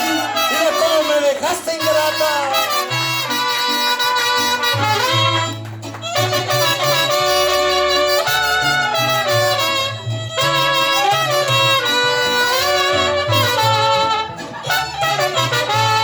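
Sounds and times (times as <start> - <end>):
trumpets playing melody: 0.0 - 16.0
bass line: 1.8 - 16.0.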